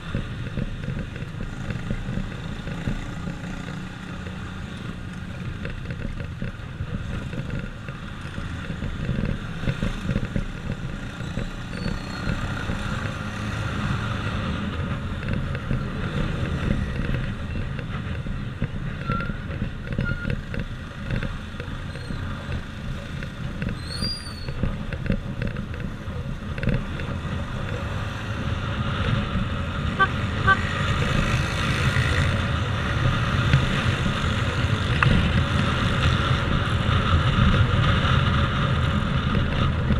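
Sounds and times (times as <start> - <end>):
motorcycle engine running: 0.0 - 39.9
passing traffic: 0.0 - 39.9
road and wind noise: 0.0 - 39.9.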